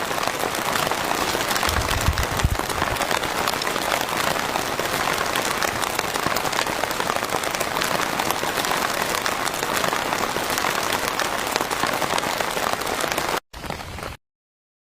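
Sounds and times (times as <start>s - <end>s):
heavy rain on a roof: 0.0s - 14.2s.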